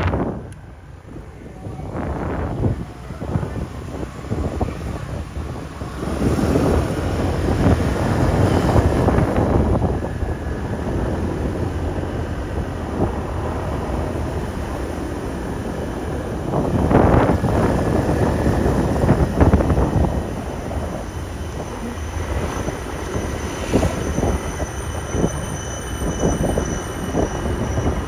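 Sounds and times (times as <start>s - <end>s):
scooter ride rumble: 0.0s - 25.4s
wind buffeting microphone: 0.0s - 28.0s.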